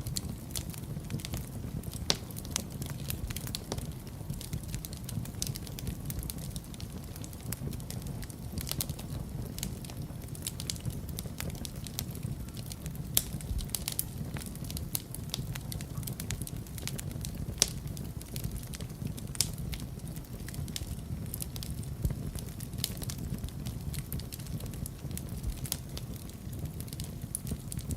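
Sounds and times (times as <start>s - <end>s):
fire popping: 0.0s - 27.9s
low rumble of flames: 0.0s - 27.9s
wood fire crackling: 0.0s - 27.9s.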